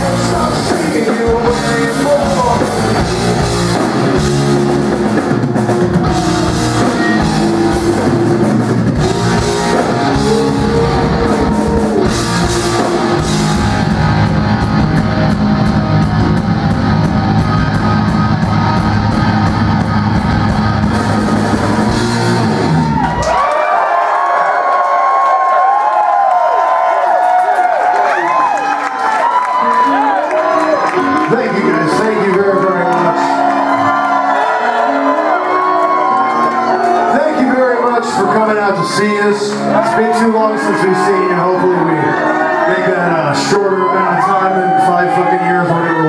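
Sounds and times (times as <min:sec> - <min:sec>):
live rock band playing: 0:00.0 - 0:23.4, 0:29.4 - 0:45.3
crowd cheering: 0:00.0 - 0:46.0.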